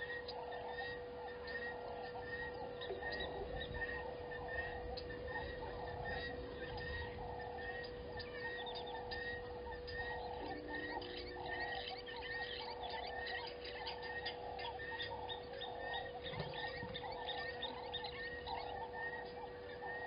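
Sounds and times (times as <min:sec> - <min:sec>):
frogs rasping calls: 0:00.0 - 0:20.0
steady hum: 0:00.0 - 0:20.0.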